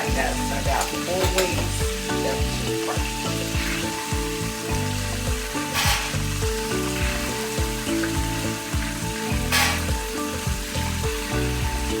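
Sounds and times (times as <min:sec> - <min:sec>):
background music: 0:00.0 - 0:12.0
chicken sizzling in oil: 0:00.0 - 0:12.0.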